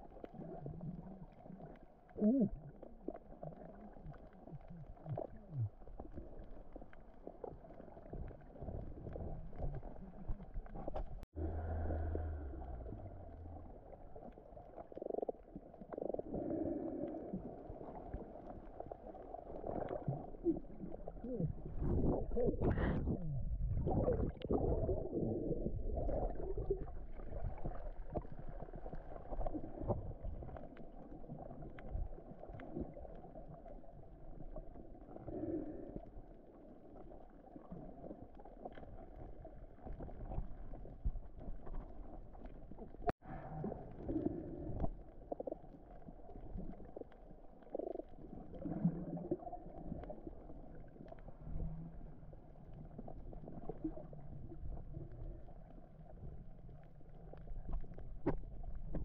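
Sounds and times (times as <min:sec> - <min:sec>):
gurgles and bubbles: 0:00.0 - 0:59.0
muffled underwater water rumble: 0:00.0 - 0:59.0.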